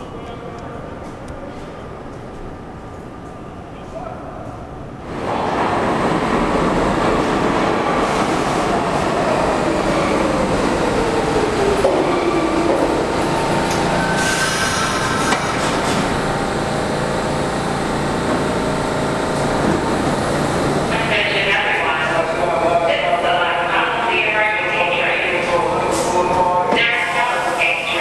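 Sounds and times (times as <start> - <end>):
train equipment humming: 5.2 - 28.0.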